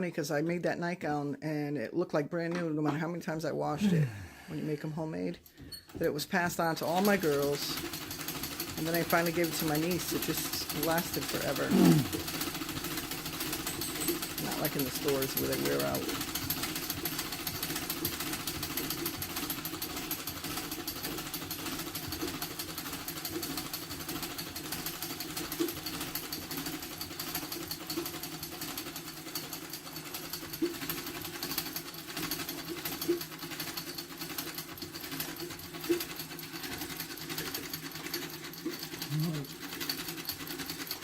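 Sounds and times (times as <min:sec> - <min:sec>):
sewing machine clattering: 0:05.3 - 0:41.0.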